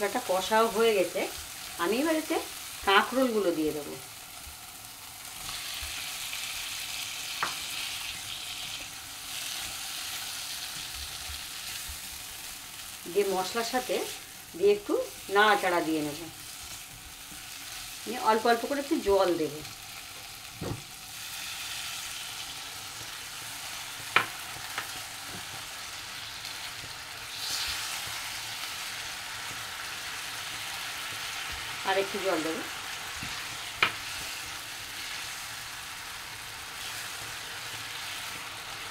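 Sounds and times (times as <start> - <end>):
vegetable slices sizzling in pan: 0.0 - 38.9.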